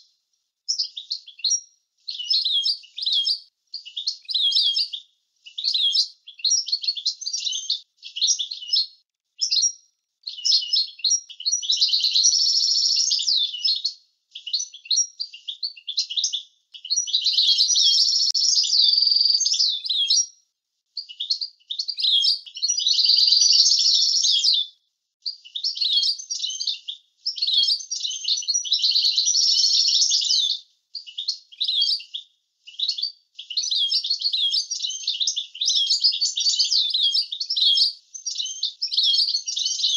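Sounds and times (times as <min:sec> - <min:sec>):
goldfinch singing: 0:00.7 - 0:20.3, 0:21.0 - 0:24.6, 0:25.2 - 0:39.9.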